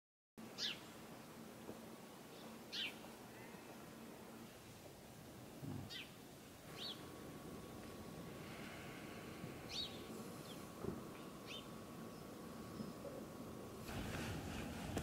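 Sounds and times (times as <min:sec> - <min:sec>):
faint steady hiss: 0:00.4 - 0:15.0.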